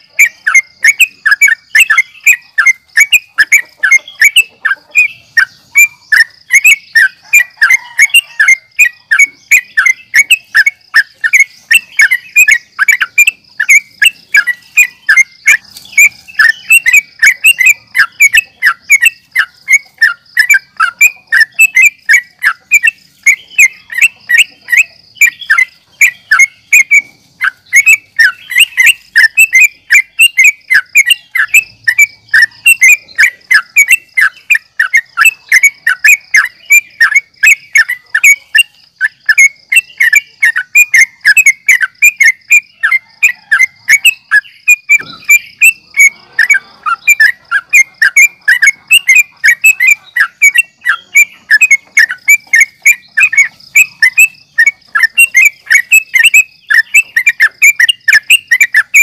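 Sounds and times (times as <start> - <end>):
bird singing whistled chirps: 0.0 - 59.0.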